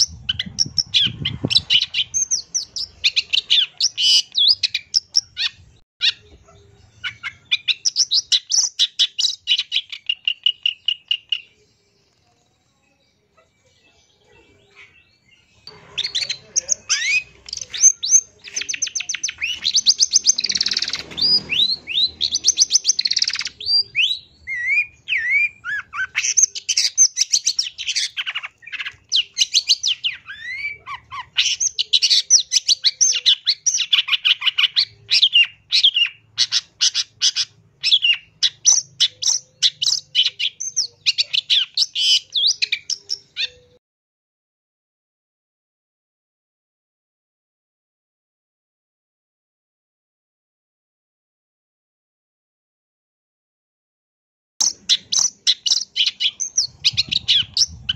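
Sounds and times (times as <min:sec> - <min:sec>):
bird chattering song: 0:00.0 - 0:43.8, 0:54.6 - 0:57.9.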